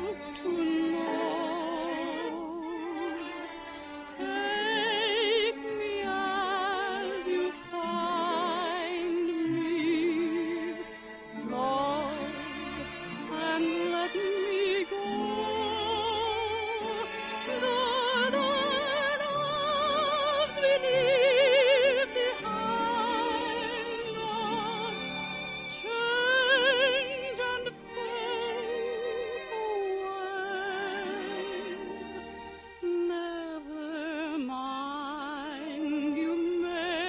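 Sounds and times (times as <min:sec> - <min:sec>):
orchestra playing: 0:00.0 - 0:32.9
operatic soprano singing: 0:00.0 - 0:37.0.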